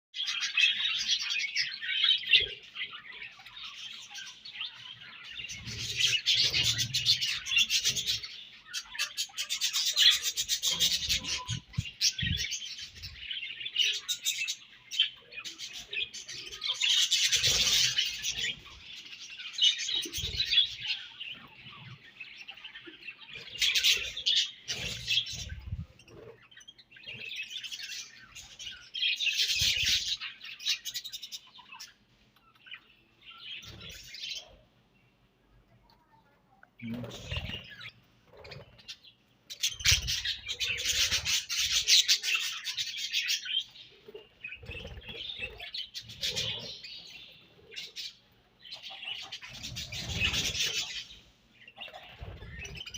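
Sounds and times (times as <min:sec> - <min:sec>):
budgerigars chirping and chattering: 0:00.2 - 0:35.3, 0:36.8 - 0:52.9.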